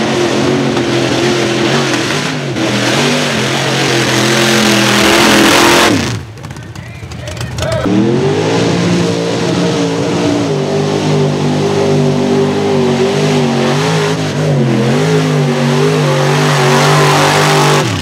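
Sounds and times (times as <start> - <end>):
truck engine revving hard: 0.0 - 6.4, 7.4 - 18.0.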